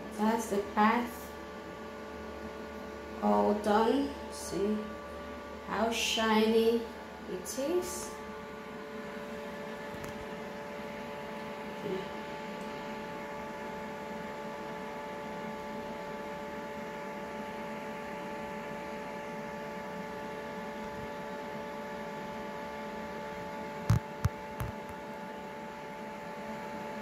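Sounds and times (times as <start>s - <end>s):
steady multi-tone hum: 0.0s - 27.0s.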